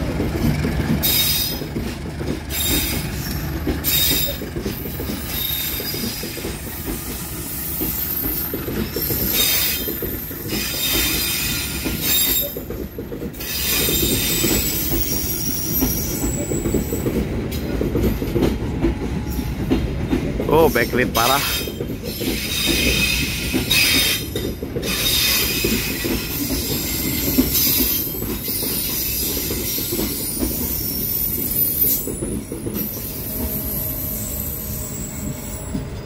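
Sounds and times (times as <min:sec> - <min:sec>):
train rolling low rumble: 0:00.0 - 0:36.0
train wheels squealing: 0:00.8 - 0:18.3, 0:19.0 - 0:19.8, 0:20.5 - 0:36.0.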